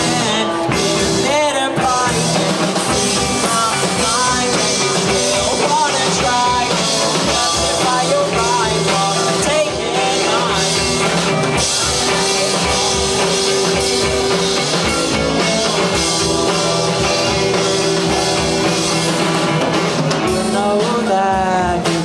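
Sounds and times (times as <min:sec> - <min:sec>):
drum kit beat: 0:00.0 - 0:22.0
guitar: 0:00.0 - 0:22.0
live rock band playing: 0:00.0 - 0:22.0.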